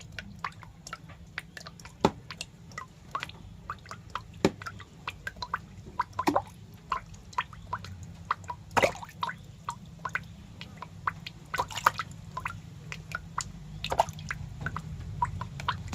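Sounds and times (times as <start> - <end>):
low steady hum: 0.0 - 15.9
wet clicks and drip-like pops: 0.0 - 15.9.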